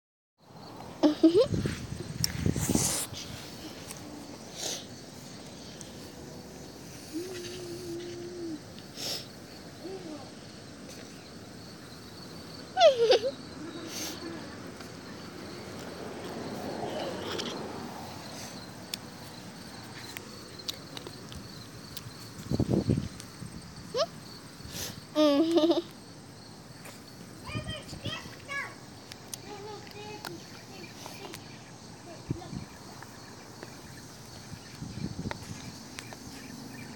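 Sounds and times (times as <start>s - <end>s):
insects chirring: 0.4s - 36.9s.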